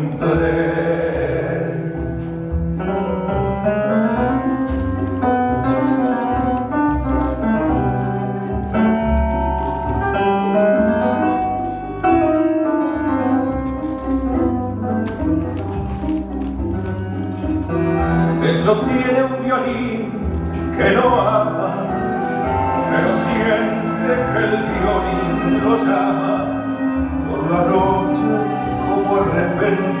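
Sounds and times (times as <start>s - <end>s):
bowed strings: 0.0s - 30.0s
piano: 0.0s - 30.0s.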